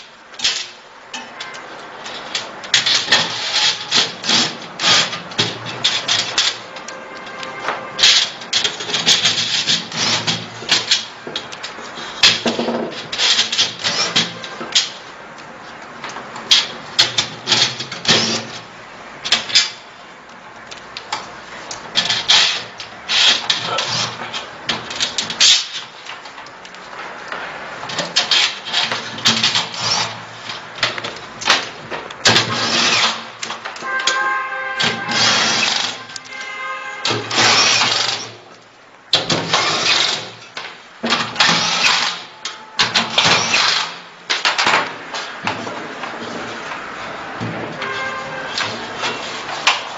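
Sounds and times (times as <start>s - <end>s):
hard parts scraping and clicking: 0.0s - 49.9s.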